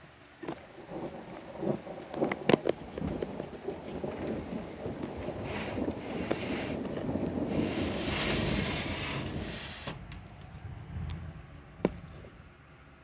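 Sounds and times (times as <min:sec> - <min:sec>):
low rumble of thunder: 0:00.0 - 0:13.0
rain hiss: 0:00.0 - 0:13.0
wind: 0:00.0 - 0:13.0.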